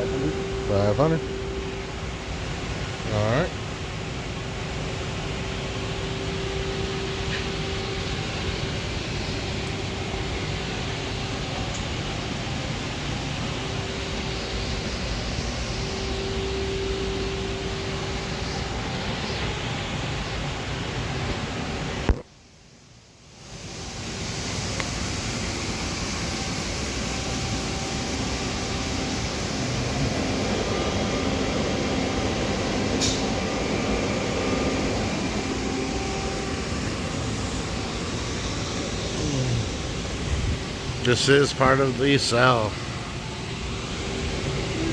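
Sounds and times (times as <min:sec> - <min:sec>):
industrial machinery noise: 0:00.0 - 0:22.1, 0:23.4 - 0:44.9
steady whine: 0:00.0 - 0:22.2, 0:23.6 - 0:44.9.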